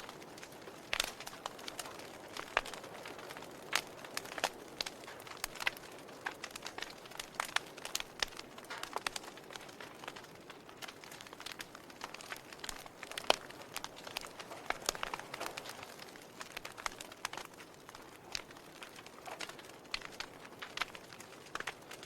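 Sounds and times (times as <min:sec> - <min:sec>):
hiss of burning wood: 0:00.0 - 0:22.0
log fire pops and snaps: 0:00.0 - 0:22.0.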